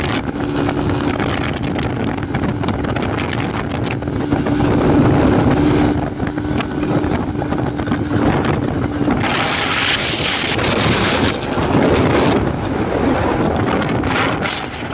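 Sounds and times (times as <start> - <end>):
two-stroke engine running: 0.0 - 14.9.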